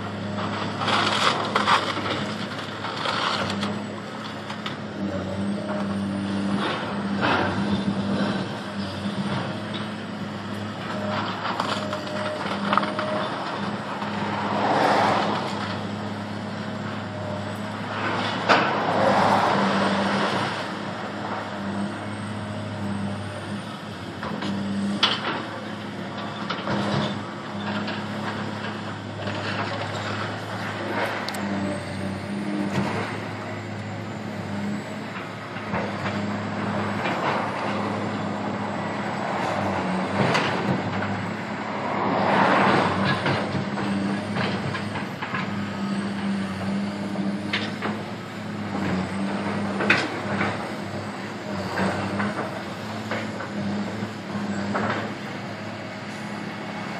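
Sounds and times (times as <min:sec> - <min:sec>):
diesel engine droning: 0:00.0 - 0:56.9.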